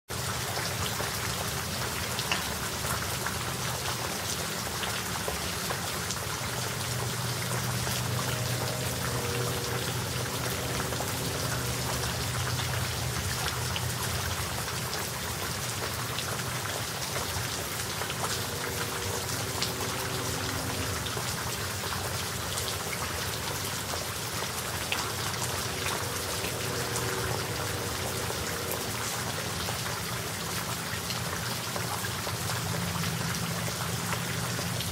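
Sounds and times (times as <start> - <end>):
rain falling: 0.1 - 34.9
raindrops ticking on surfaces: 0.1 - 34.9.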